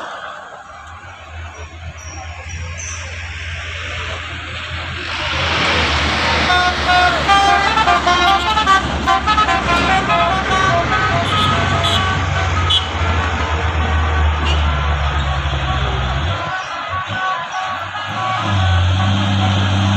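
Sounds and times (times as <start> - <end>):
truck engine running: 0.0 - 19.9.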